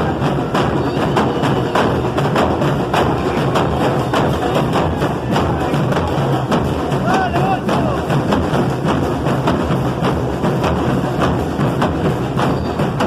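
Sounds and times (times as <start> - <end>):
steady percussion beat: 0.0 - 13.0.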